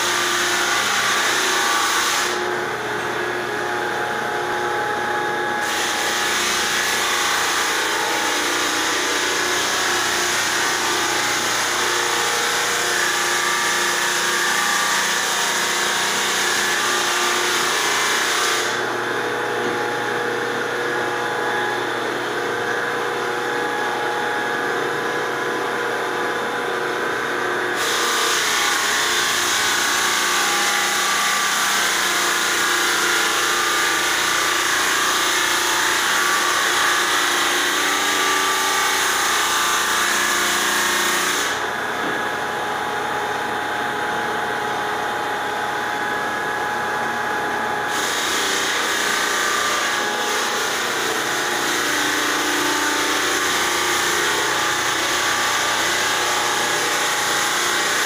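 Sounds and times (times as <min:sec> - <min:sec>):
machine motor humming and whining: 0:00.0 - 0:58.0.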